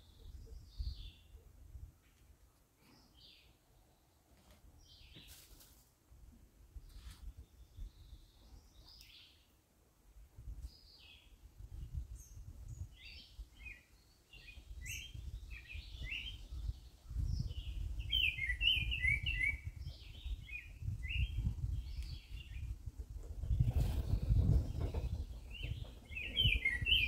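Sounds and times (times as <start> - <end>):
small birds chirping: 0.0 - 5.6, 6.8 - 9.6, 10.6 - 27.0.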